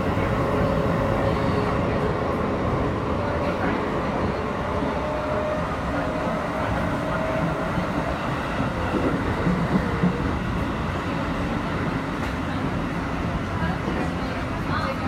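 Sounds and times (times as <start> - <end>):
faint train whine: 0.0 - 15.0
train wheels rumbling: 0.0 - 15.0.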